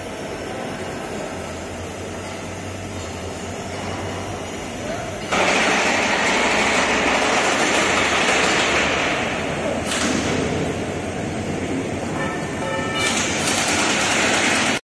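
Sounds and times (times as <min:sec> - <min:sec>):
rushing machinery noise: 0:00.0 - 0:14.8.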